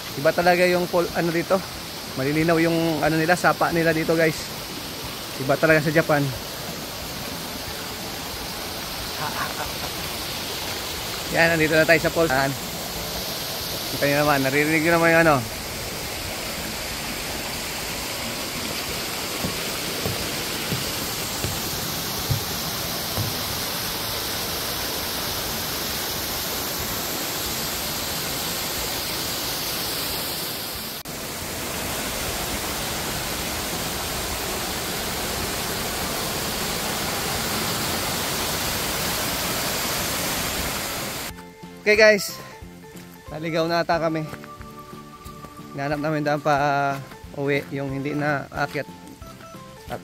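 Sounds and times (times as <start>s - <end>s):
waterfall rushing: 0.0s - 42.2s.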